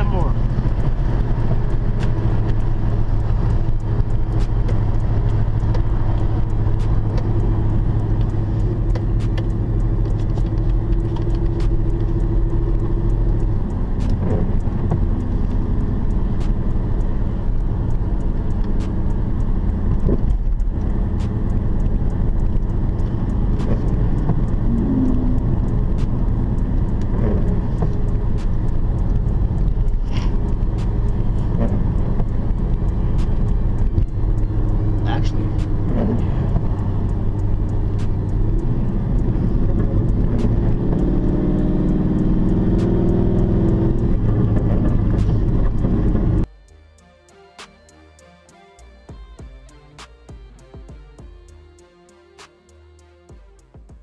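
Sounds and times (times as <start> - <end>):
car engine drone from cabin: 0.0 - 54.0
road noise: 0.0 - 54.0.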